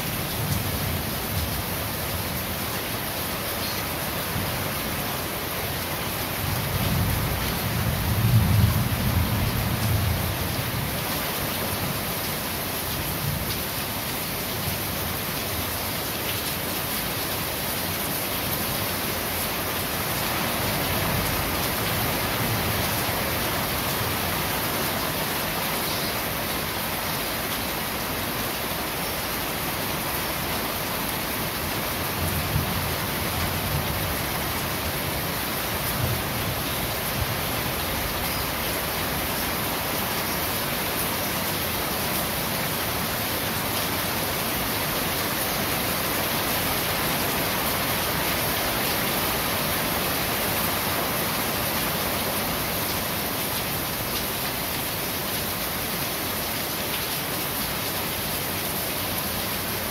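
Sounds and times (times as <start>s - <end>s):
rain on a corrugated roof: 0.0s - 59.9s.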